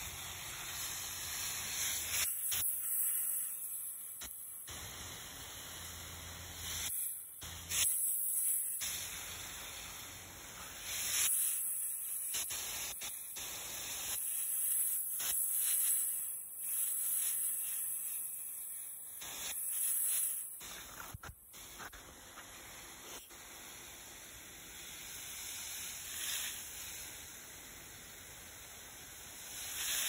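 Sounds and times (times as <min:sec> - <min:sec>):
water spray hissing: 0:00.0 - 0:30.0.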